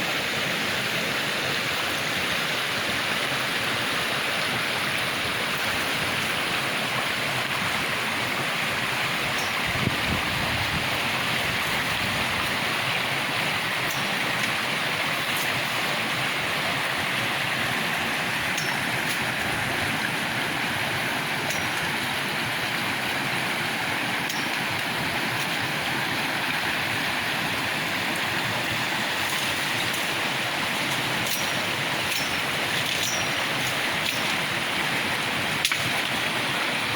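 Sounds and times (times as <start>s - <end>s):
water rushing over rocks: 0.0s - 36.9s.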